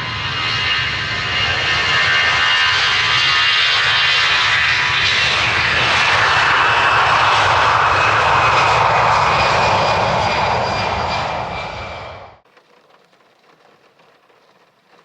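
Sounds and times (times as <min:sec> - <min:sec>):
airliner engines roaring past: 0:00.0 - 0:15.0.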